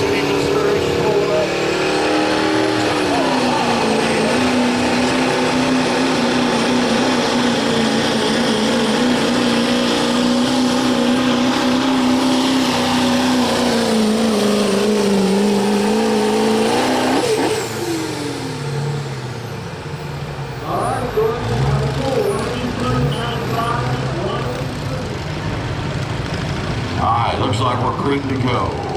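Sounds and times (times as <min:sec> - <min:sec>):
diesel truck engine revving: 0:00.0 - 0:28.9.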